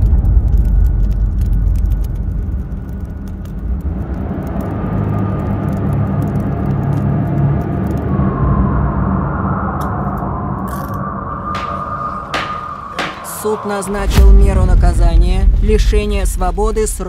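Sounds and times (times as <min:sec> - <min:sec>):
fire crackling in fireplace: 0:00.0 - 0:08.4, 0:10.6 - 0:17.0
deep steady rumble: 0:00.0 - 0:17.0.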